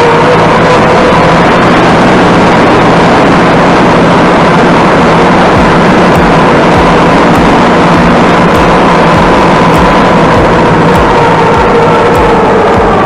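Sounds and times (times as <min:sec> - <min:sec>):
diesel tractor engine running: 0:00.0 - 0:13.0
thin steady whine: 0:00.0 - 0:13.0.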